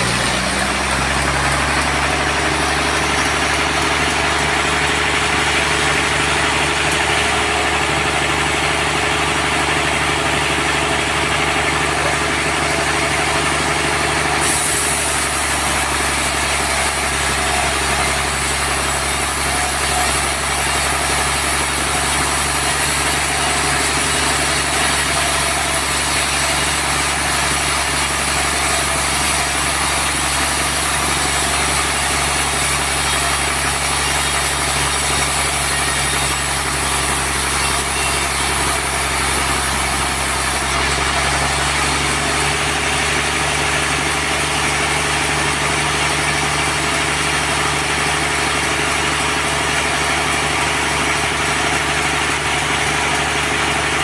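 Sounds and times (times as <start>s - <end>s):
engine drone: 0.0s - 54.0s
saw cutting log: 0.0s - 54.0s.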